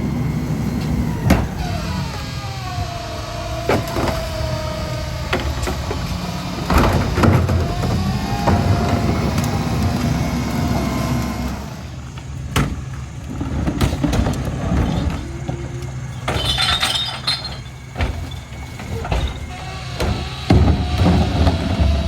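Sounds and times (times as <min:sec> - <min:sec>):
garbage truck engine rumble: 0:00.0 - 0:22.0
trash being compacted: 0:00.0 - 0:22.0.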